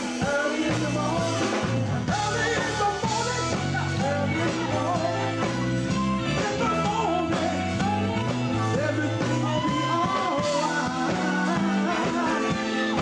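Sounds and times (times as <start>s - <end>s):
drums keeping a steady beat: 0.0s - 13.0s
lead singer: 0.0s - 13.0s
rock and roll band playing: 0.0s - 13.0s.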